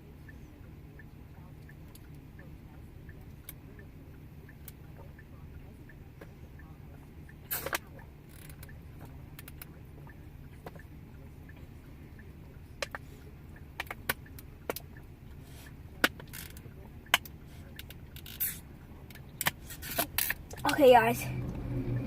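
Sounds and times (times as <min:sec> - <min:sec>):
car rumble inside cabin: 0:00.0 - 0:22.0.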